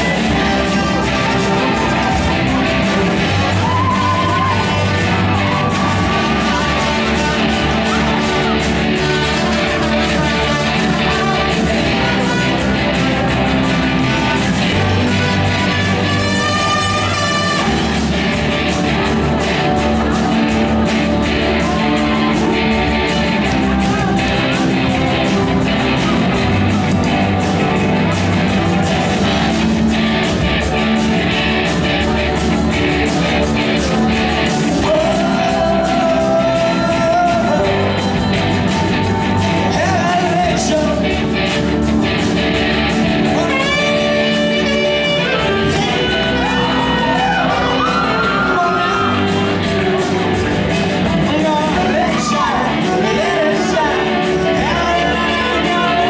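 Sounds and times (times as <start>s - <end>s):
person singing: 0.0s - 41.7s, 43.1s - 56.0s
electric guitars: 0.0s - 56.0s
rock band playing: 0.0s - 56.0s.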